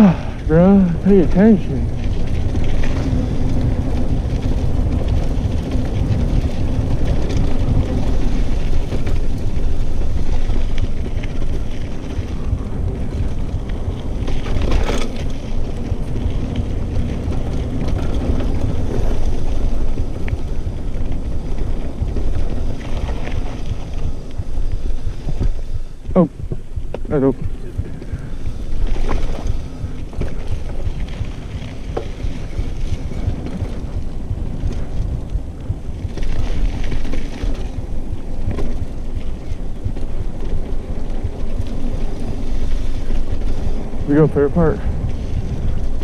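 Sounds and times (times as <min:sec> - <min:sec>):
bike tyre and frame rattle: 0:00.0 - 0:46.0
wind buffeting microphone: 0:00.0 - 0:46.0.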